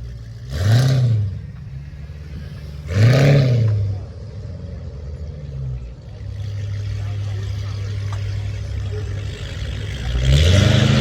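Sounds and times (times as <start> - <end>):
car engine idling: 0.0 - 11.0
engine throttle rev: 0.0 - 11.0.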